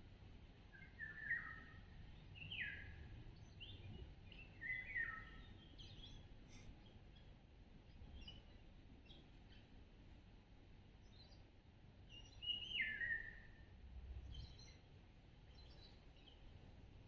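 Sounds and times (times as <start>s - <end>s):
low steady background rumble: 0.0s - 17.0s.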